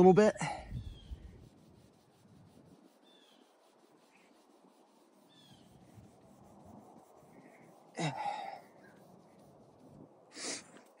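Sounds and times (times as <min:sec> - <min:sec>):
rag rubbing wooden handle: 0:00.8 - 0:11.0.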